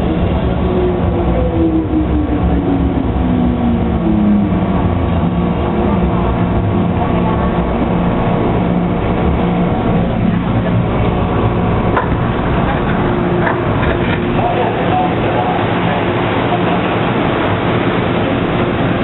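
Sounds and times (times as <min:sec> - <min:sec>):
train traction motor whine: 0:00.0 - 0:19.0
train wheels rumbling: 0:00.0 - 0:19.0.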